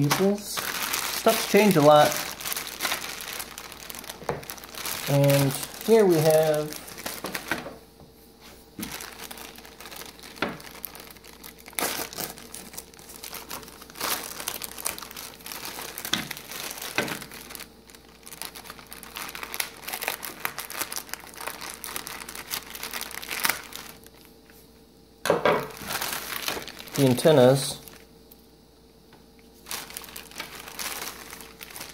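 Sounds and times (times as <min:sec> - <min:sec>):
plastic bag crinkling: 0:00.0 - 0:07.8, 0:08.4 - 0:24.6, 0:25.6 - 0:28.1, 0:29.5 - 0:31.9.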